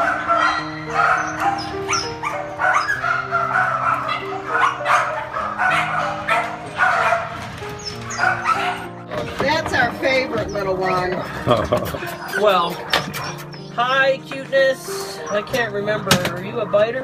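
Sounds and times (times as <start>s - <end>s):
background music with held notes: 0.0s - 17.0s
dogs barking and yipping: 0.0s - 17.0s.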